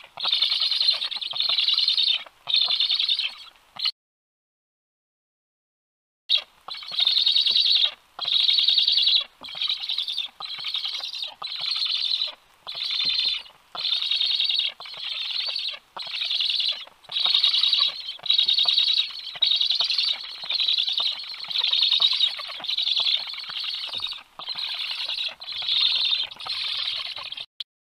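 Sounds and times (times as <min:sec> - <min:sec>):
stork nestlings begging calls: 0:00.0 - 0:03.5, 0:06.3 - 0:27.5.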